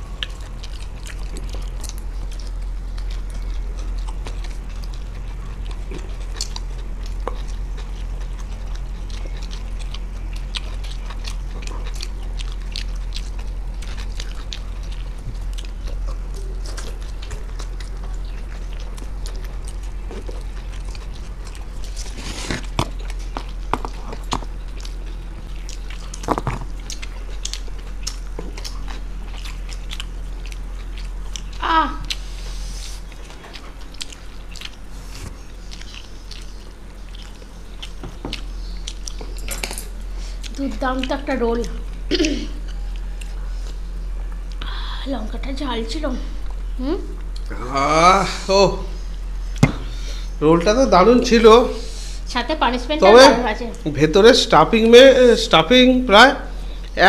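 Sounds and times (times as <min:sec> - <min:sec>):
people chewing: 0:00.0 - 0:57.0
steady low hum: 0:00.0 - 0:57.0.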